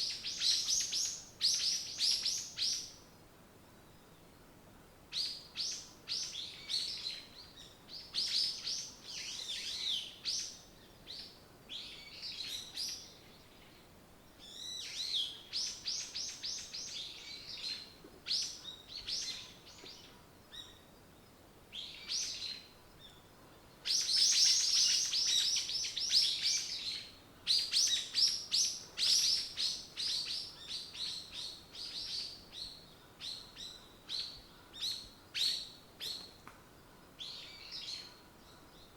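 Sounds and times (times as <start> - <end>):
songbirds chirping and trilling: 5.2 - 38.9.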